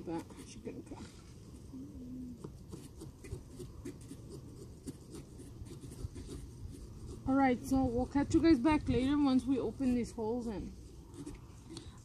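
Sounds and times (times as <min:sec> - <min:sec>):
carving tools scratching pumpkin rind: 0:00.0 - 0:12.0.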